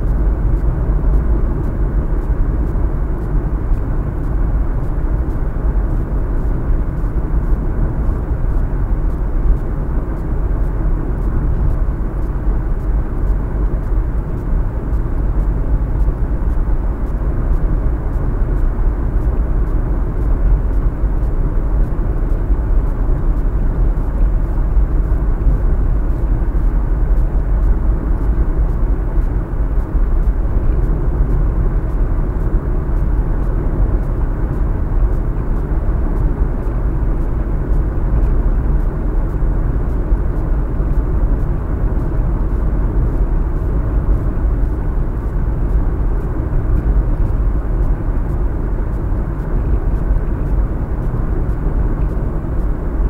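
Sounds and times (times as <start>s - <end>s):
car road and engine noise: 0.0s - 53.0s.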